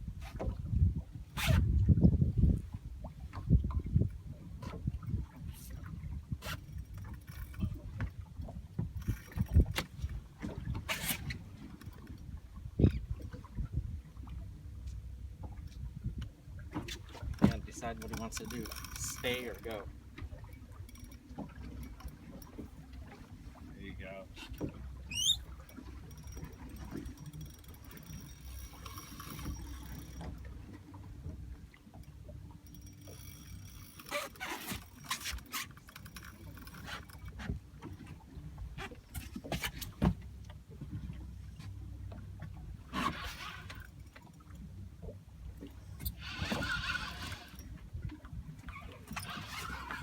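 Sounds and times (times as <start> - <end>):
fishing boat engine rumble: 0.0 - 50.0.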